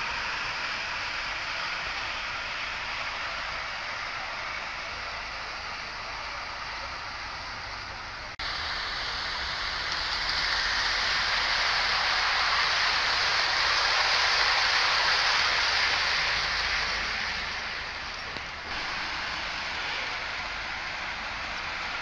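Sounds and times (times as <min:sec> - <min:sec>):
model train wheels on rail: 0:00.0 - 0:22.0
outdoor hiss: 0:00.0 - 0:22.0.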